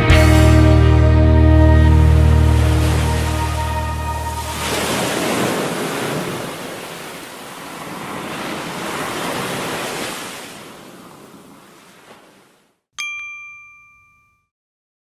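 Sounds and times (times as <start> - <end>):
ocean surf breaking: 0.0 - 12.7.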